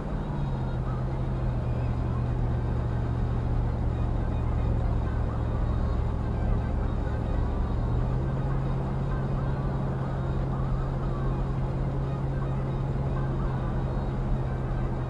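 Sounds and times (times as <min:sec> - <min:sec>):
road noise: 0:00.0 - 0:15.0
vehicle engine drone: 0:00.0 - 0:15.0.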